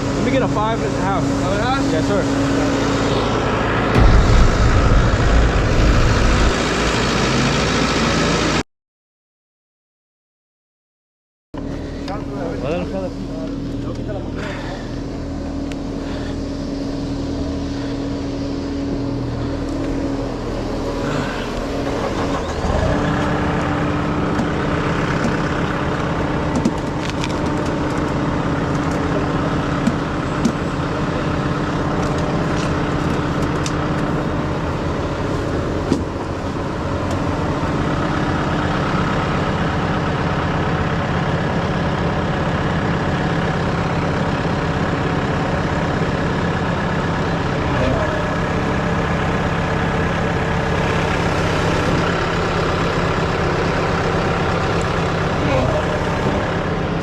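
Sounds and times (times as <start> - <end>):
diesel engine running: 0.0 - 8.6, 11.6 - 57.0.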